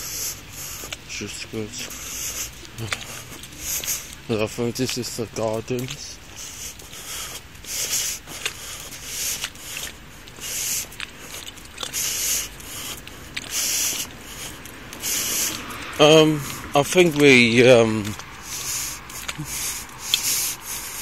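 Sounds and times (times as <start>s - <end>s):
rhythmic hissing footstep bursts: 0.0s - 21.0s.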